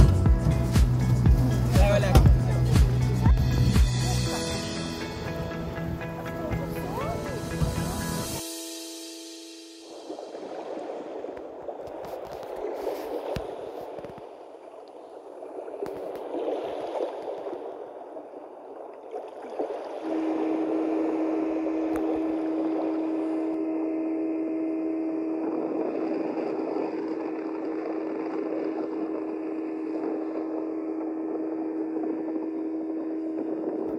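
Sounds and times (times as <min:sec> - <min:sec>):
boat engine drone: 0:00.0 - 0:13.8, 0:19.9 - 0:33.9
water splashing around hull: 0:00.0 - 0:33.9.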